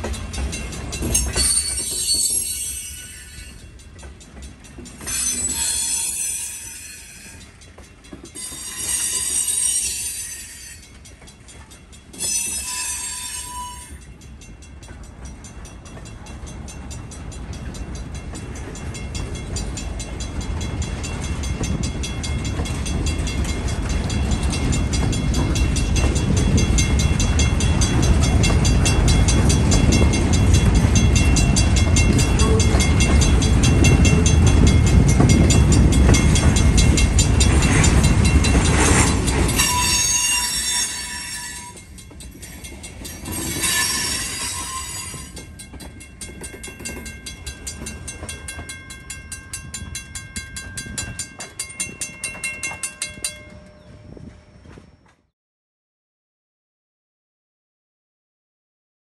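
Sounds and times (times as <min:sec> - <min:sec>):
freight train wheels rumbling: 0:00.0 - 0:55.3.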